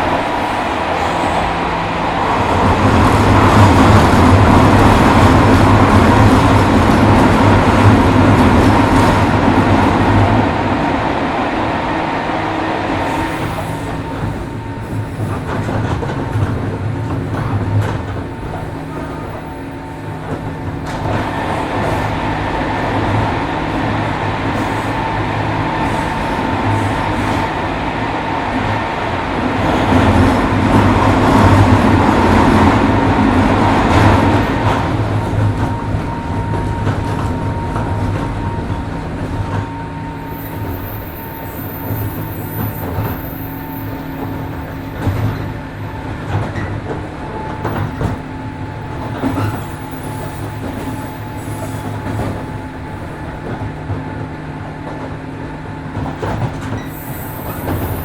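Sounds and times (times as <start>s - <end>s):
rail clicks: 0.0s - 58.0s
train wheels rumbling: 0.0s - 58.0s.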